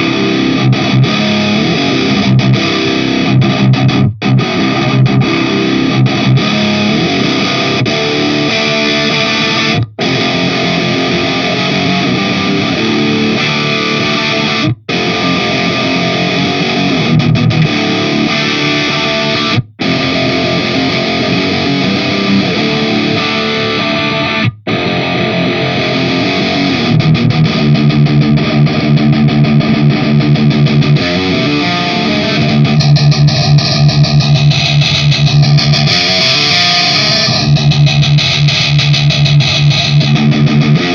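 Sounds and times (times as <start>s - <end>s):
distorted electric guitar riff: 0.0s - 40.9s.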